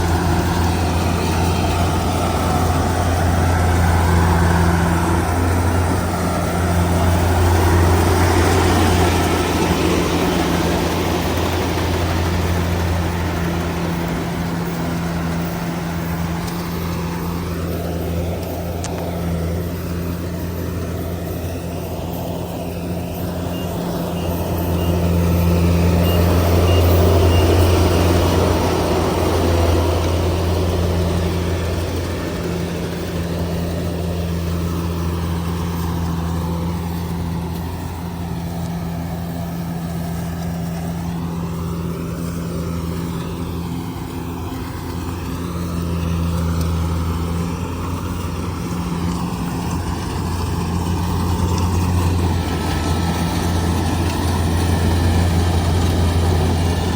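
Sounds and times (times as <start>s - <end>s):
combine harvester diesel engine droning: 0.0s - 56.9s.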